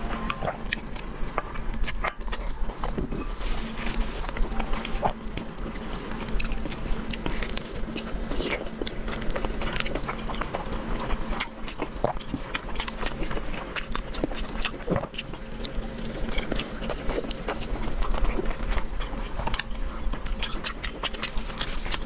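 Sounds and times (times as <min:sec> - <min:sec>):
chewing and mouth clicks: 0:00.0 - 0:22.0
low hum: 0:00.0 - 0:22.0.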